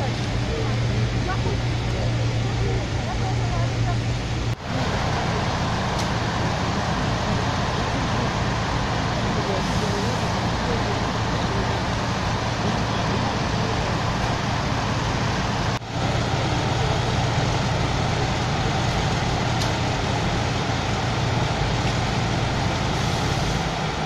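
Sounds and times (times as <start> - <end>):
fire engines idling: 0.0 - 24.0.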